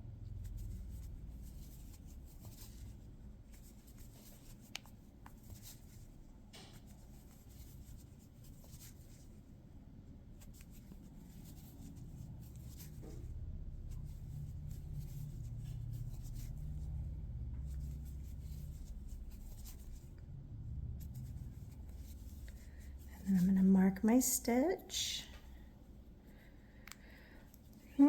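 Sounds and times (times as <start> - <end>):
crochet hook rustling yarn: 0.0 - 28.0.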